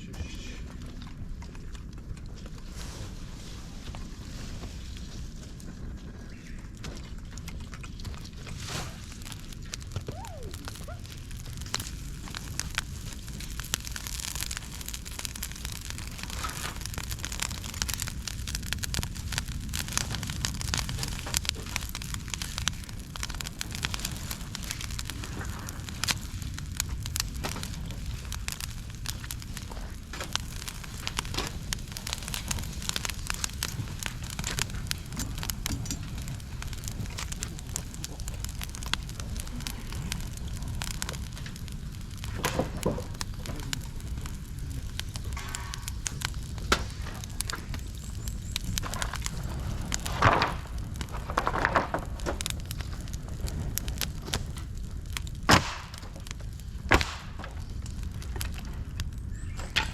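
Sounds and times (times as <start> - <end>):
campfire crackling and popping: 0.0 - 59.9
low steady fire rumble: 0.0 - 59.9
loud wood cracks: 3.8 - 59.9.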